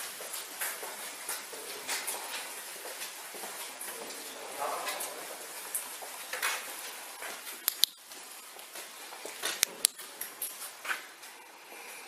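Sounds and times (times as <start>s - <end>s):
scuffing footsteps: 0.0s - 11.4s.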